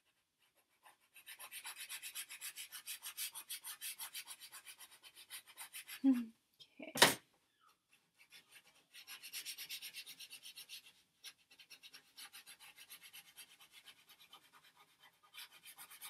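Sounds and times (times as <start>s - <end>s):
pastel scratching on paper: 0.0s - 6.2s, 7.7s - 16.0s.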